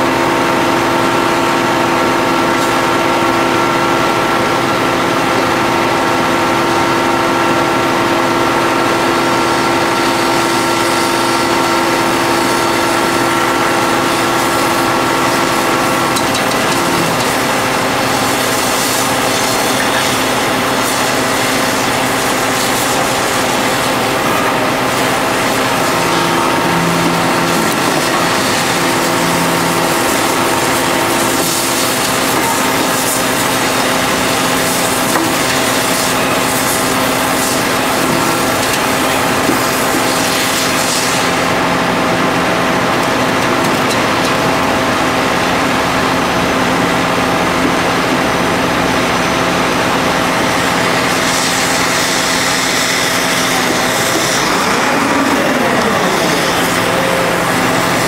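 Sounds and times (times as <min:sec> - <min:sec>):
hydraulic machine droning: 0:00.0 - 0:58.0
machine whine: 0:00.0 - 0:58.0.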